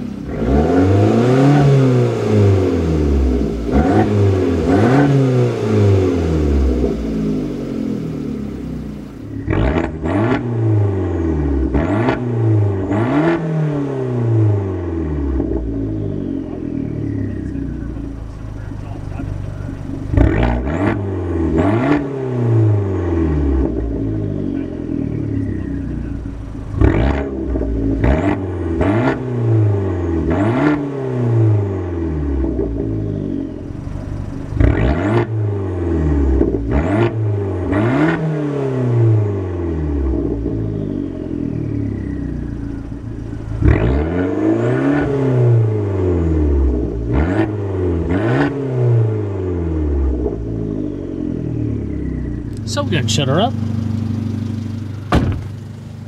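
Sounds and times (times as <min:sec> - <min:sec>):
car engine revving: 0:00.0 - 0:56.0
exhaust snap: 0:00.0 - 0:56.0.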